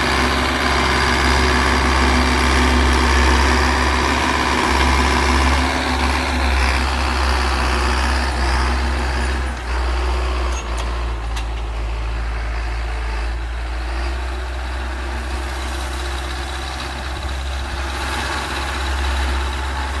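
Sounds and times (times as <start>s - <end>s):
tractor diesel engine droning: 0.0s - 20.0s.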